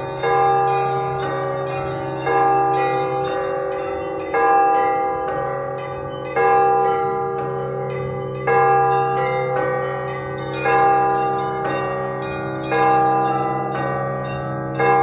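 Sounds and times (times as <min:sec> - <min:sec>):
heavy church bell: 0:00.0 - 0:15.0.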